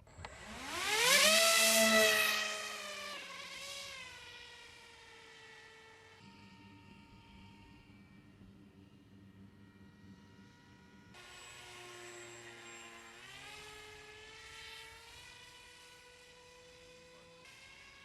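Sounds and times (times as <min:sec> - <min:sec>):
model aircraft motor whining: 0:00.0 - 0:18.0.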